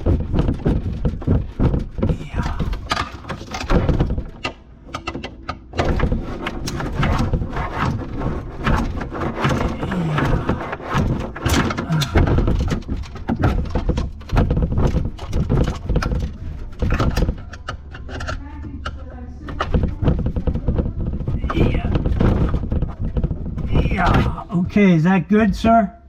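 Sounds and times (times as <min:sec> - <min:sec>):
tools and fittings clattering: 0:00.0 - 0:24.2.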